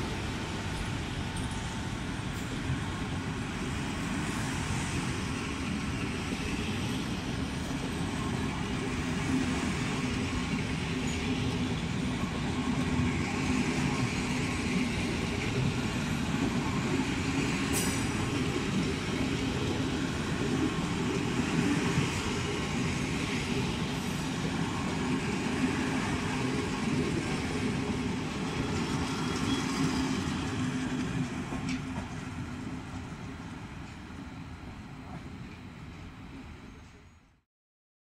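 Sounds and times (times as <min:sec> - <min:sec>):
train wheels rumbling on track: 0:00.0 - 0:37.1.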